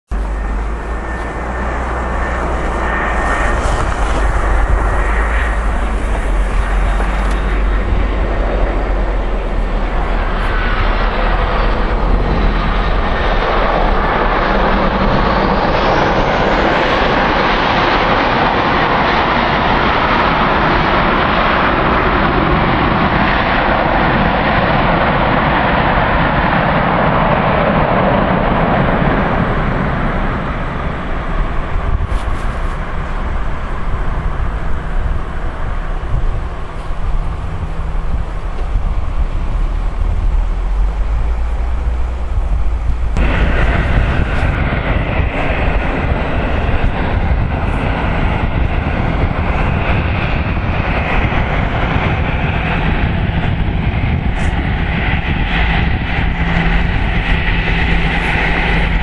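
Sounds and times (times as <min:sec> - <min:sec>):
jet engines running: 0:00.1 - 0:59.0
wind buffeting microphone: 0:00.1 - 0:59.0.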